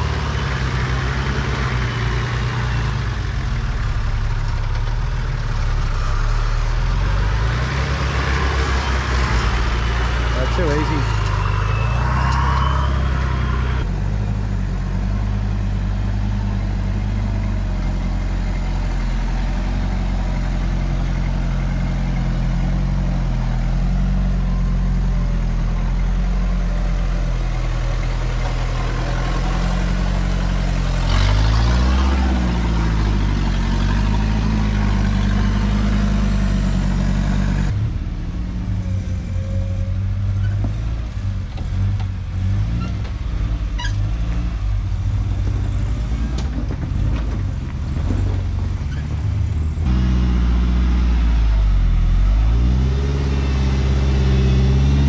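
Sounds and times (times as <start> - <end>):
truck engines labouring: 0.0 - 55.0.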